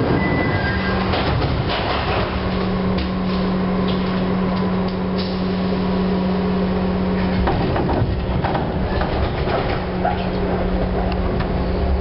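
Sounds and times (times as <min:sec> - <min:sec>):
rumbling background: 0:00.0 - 0:12.0
train car low hum: 0:00.0 - 0:12.0.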